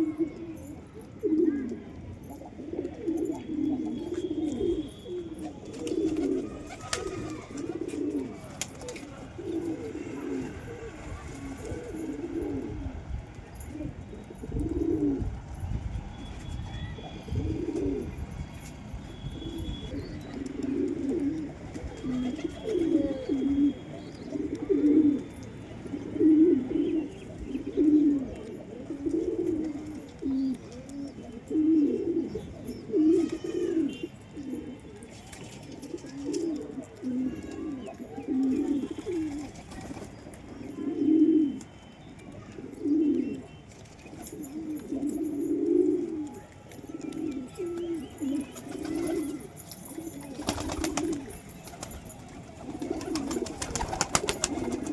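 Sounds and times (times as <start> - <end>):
pigeons cooing: 0.0 - 15.3, 17.3 - 18.2, 19.7 - 54.9.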